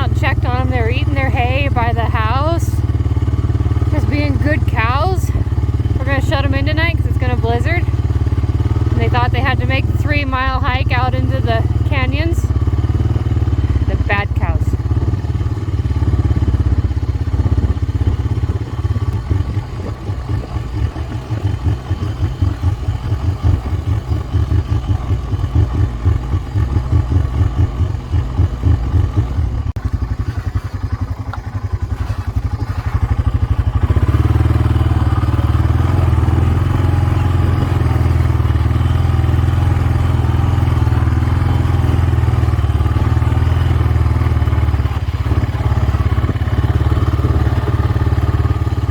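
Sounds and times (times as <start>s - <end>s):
atv engine running: 0.0s - 48.9s.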